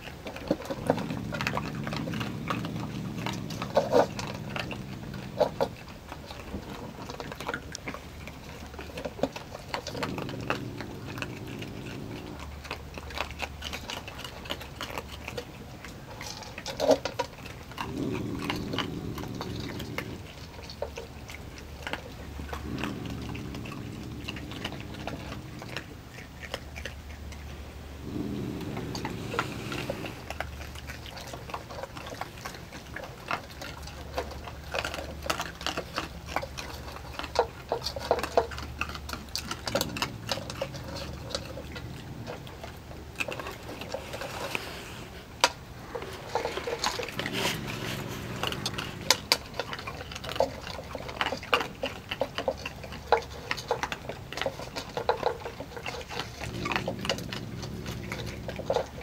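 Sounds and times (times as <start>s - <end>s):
low steady hum: 0.0s - 59.0s
raccoons crunching dry kibble: 0.0s - 59.0s.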